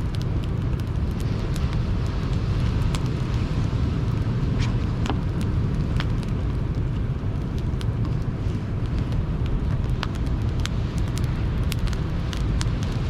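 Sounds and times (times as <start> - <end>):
sea waves rumbling: 0.0 - 13.0
wood fire crackling: 0.0 - 13.0.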